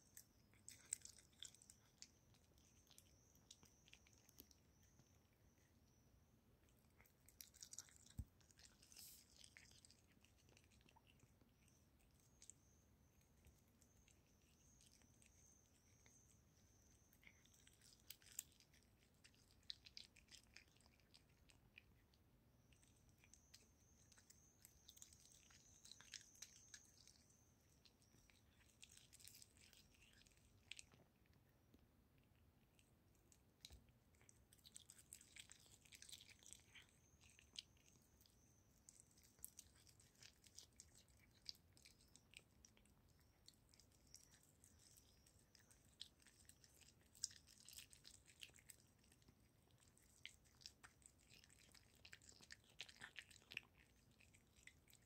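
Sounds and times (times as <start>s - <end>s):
cat chewing and licking: 0.0s - 55.0s.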